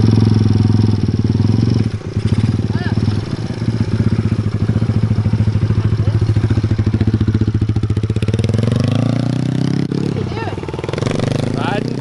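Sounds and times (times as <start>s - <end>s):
small motorbike engine revving: 0.0s - 12.0s.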